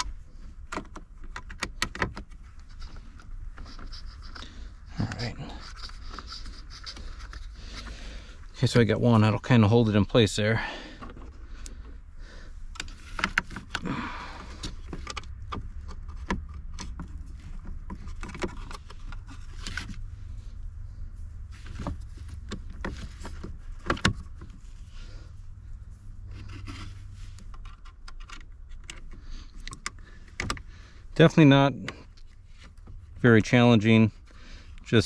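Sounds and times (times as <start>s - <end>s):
steady low hum: 2.2s - 35.0s.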